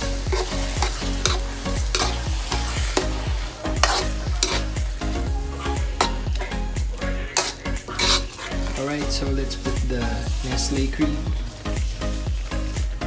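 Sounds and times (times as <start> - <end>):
food sizzling: 0.0 - 13.0
spatula scraping metal wok: 0.0 - 13.0.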